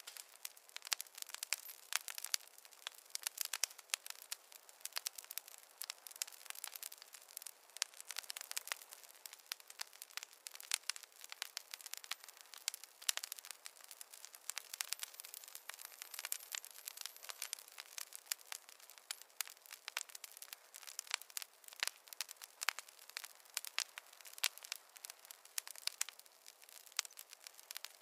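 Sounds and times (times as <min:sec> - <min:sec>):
campfire crackling: 0:00.0 - 0:28.0
soft fire hiss: 0:00.0 - 0:28.0.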